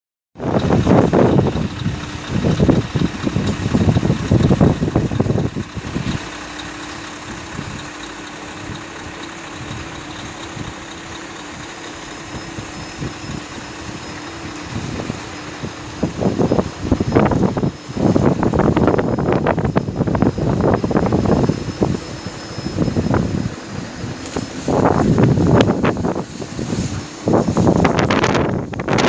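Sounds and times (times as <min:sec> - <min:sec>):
engine idling: 0:00.4 - 0:29.0
wind buffeting microphone: 0:00.4 - 0:29.0.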